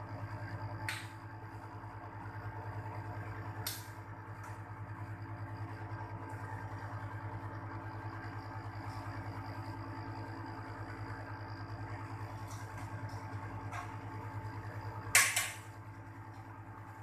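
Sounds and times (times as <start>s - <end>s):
air conditioner compressor humming: 0.0s - 17.0s.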